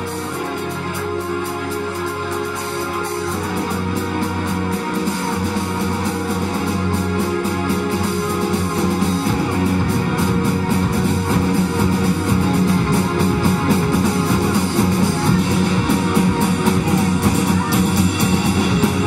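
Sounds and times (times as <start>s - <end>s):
bass guitar: 0.0s - 19.0s
drums: 0.0s - 19.0s
electric guitar: 0.0s - 19.0s
keyboard chords: 0.0s - 19.0s.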